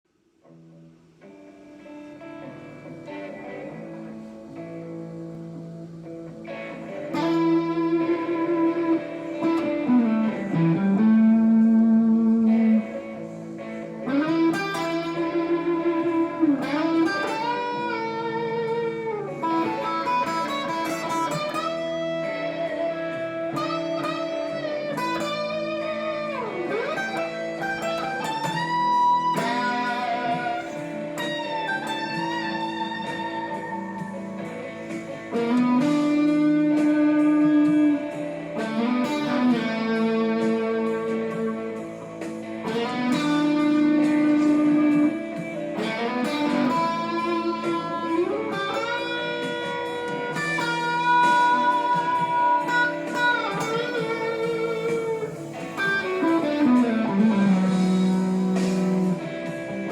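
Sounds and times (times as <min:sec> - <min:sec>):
slow blues guitar: 0:00.3 - 0:59.9.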